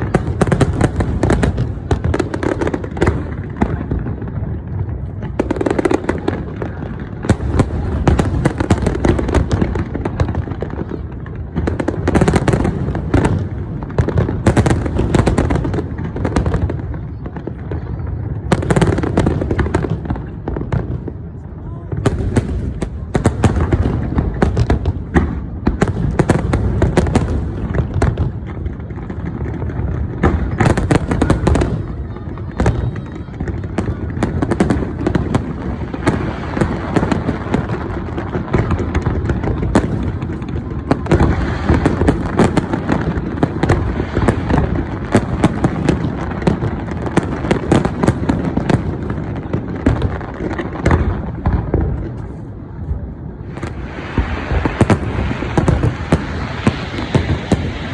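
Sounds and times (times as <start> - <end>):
fireworks booms and cracks: 0.0 - 57.9.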